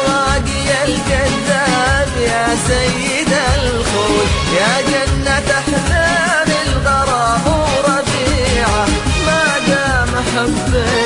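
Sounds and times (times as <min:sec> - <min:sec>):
person singing ornamented melody: 0:00.0 - 0:11.0
steady rhythmic beat: 0:00.0 - 0:11.0.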